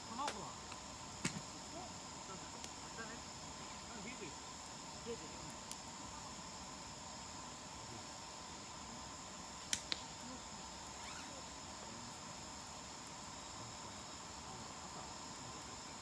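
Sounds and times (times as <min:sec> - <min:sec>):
burning firewood popping: 0:00.0 - 0:16.0
insects chirping: 0:00.0 - 0:16.0.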